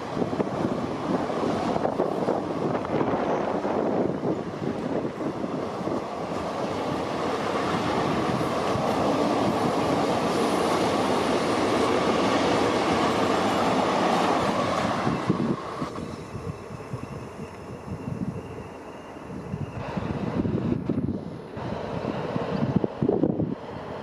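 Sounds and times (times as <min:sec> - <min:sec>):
train rumbling and rattling past: 0:00.0 - 0:24.0.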